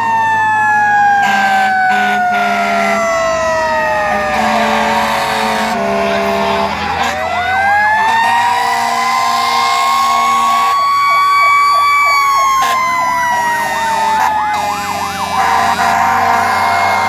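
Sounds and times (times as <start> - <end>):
siren wailing: 0.0 - 17.0
siren yelping: 0.0 - 17.0.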